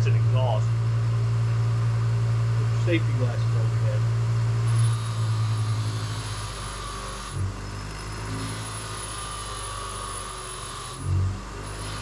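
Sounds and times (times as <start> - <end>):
bench grinder motor hum: 0.0 - 12.0.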